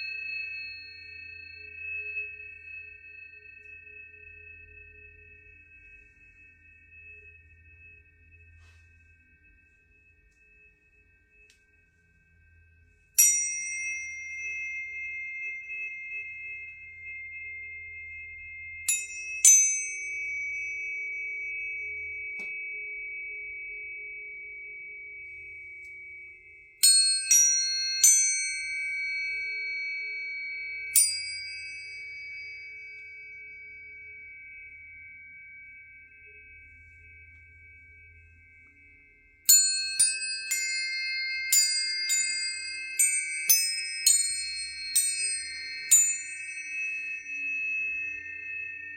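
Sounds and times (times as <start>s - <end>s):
tuning forks ringing: 0.0s - 48.9s.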